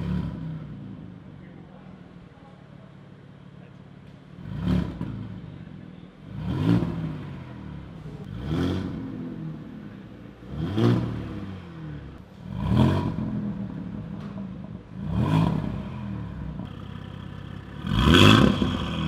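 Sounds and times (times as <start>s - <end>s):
car engine idling and revving: 0.0s - 2.2s, 2.9s - 19.0s.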